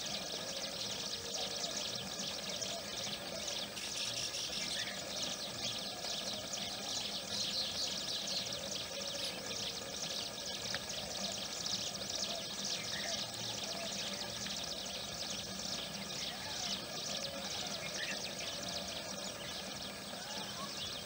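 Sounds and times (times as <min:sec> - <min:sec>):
birds chirping chorus: 0:00.0 - 0:21.0.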